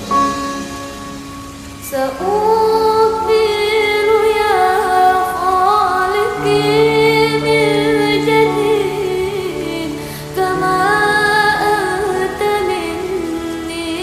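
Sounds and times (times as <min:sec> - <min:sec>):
woman singing: 0:01.8 - 0:14.0.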